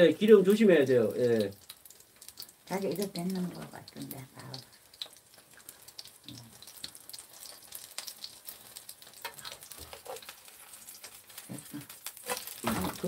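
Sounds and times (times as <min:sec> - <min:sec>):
pancake sizzling in oil: 0:00.0 - 0:13.0.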